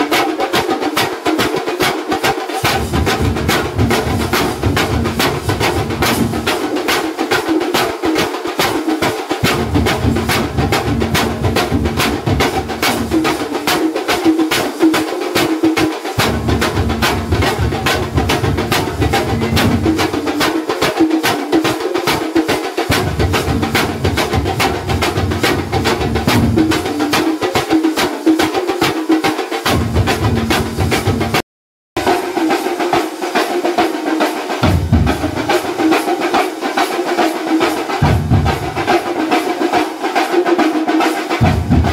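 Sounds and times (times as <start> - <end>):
cymbals: 0.0 - 31.4, 32.0 - 41.9
drums pounding fast beat: 0.0 - 31.4, 32.0 - 41.9.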